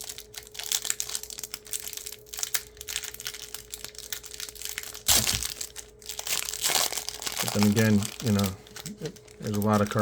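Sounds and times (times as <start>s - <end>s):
card pack wrapper crinkling: 0.0s - 10.0s.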